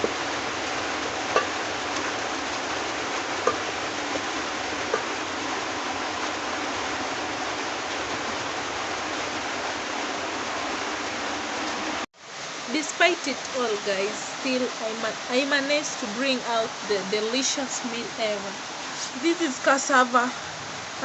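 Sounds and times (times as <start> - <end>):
rain hissing: 0.0 - 21.0.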